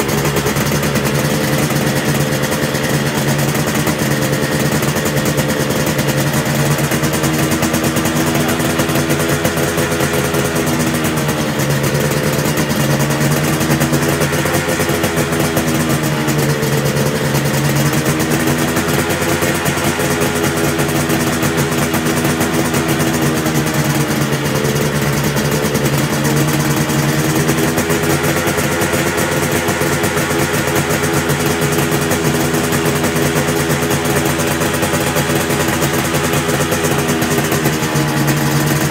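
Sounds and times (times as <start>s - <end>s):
two-stroke motorcycle idling: 0.0s - 38.9s.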